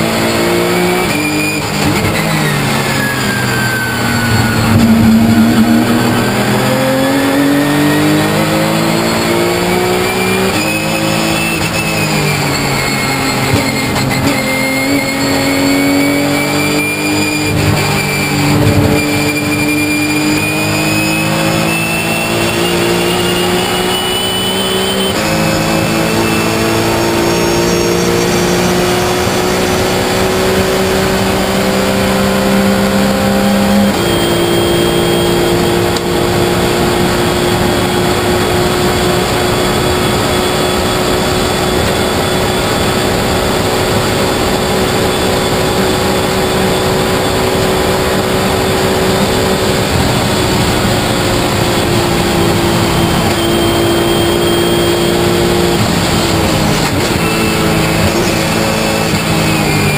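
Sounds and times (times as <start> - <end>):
gear changes: 0.0 - 59.9
race car engine revving: 0.0 - 59.9
high whine: 0.1 - 59.9.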